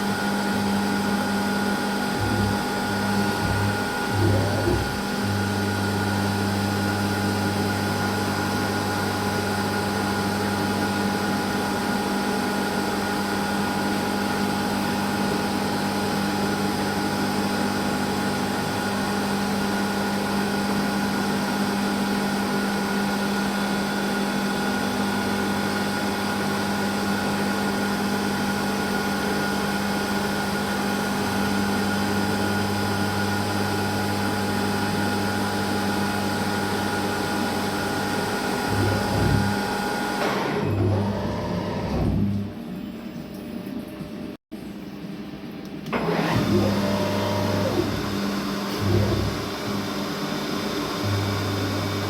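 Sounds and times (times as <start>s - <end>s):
milling machine hum: 0.0s - 20.6s, 28.4s - 43.9s, 45.8s - 52.0s.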